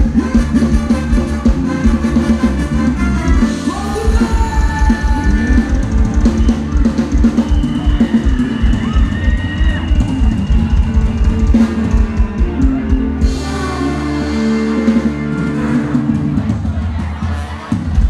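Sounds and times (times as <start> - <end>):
drum kit beat: 0.0 - 18.0
live band music: 0.0 - 18.0.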